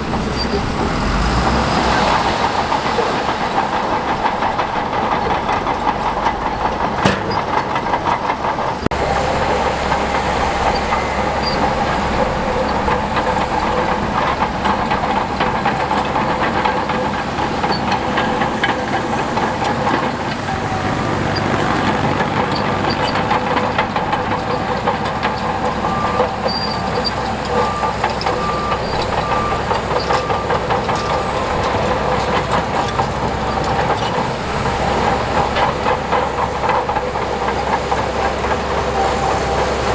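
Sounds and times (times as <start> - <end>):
bulldozer diesel engine: 0.0 - 39.9
steel tracks clattering: 0.0 - 39.9.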